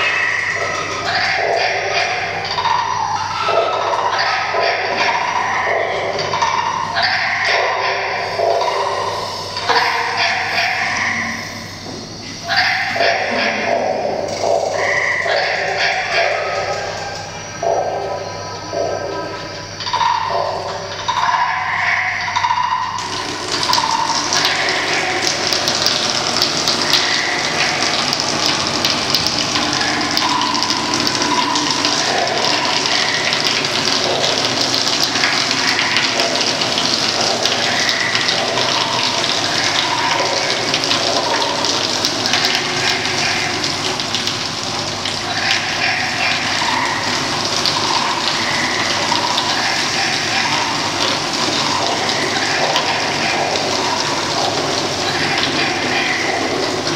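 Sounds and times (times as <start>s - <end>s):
water gushing into buckets: 0.0s - 56.9s.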